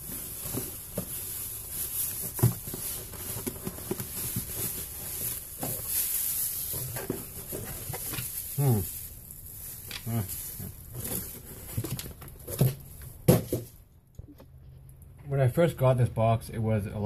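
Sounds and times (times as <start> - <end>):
plastic wrap rustling and crinkling: 0.0 - 13.8.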